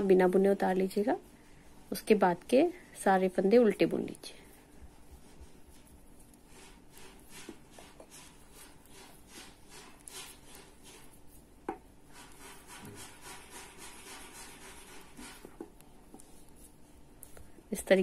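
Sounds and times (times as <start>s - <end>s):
knitting needles swishing yarn: 3.3s - 18.0s.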